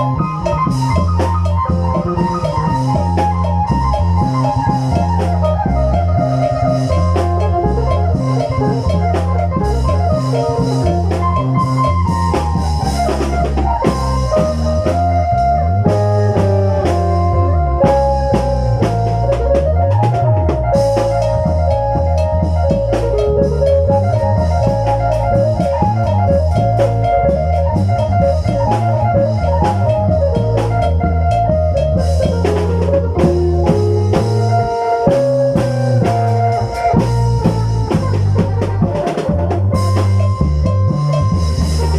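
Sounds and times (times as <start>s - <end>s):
bass line: 0.0s - 41.9s
steady drumming: 0.0s - 41.9s.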